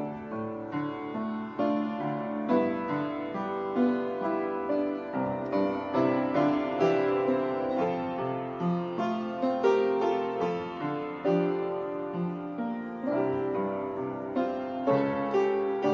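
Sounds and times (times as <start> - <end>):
gentle piano music: 0.0 - 15.9.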